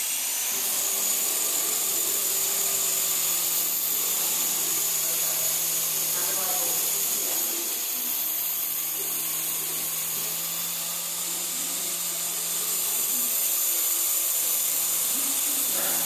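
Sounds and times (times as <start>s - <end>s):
toy helicopter motors whining: 0.0s - 16.0s.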